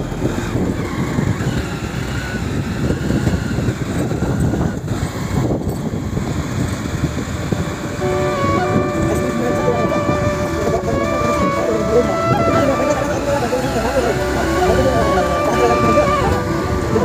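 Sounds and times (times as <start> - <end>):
vehicle road noise: 0.0 - 17.0
wind buffeting microphone: 0.0 - 17.0.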